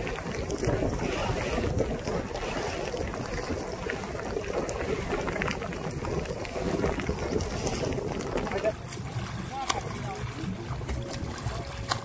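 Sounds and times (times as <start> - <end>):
wind buffeting microphone: 0.0 - 11.9
water around a boat: 0.0 - 12.0.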